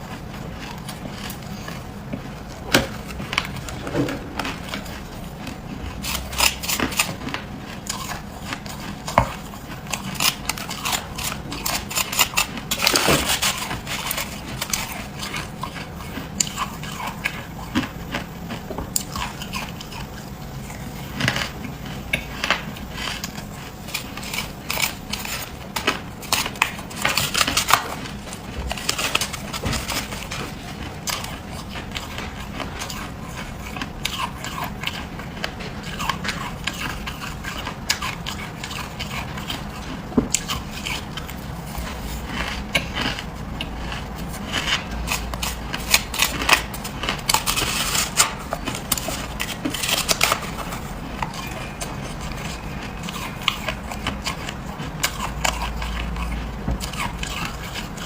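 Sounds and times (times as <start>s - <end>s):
person chewing frost crunches: 0.0s - 58.0s.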